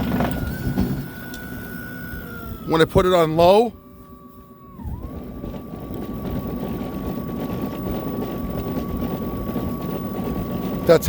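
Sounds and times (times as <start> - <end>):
auger churning: 0.0 - 11.0
snowblower motor whine: 0.0 - 11.0.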